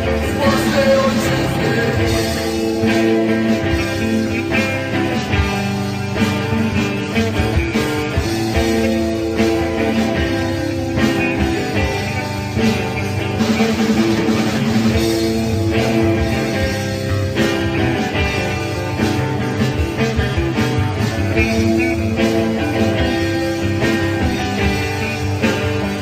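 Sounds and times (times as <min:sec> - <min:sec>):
rock music: 0:00.0 - 0:26.0.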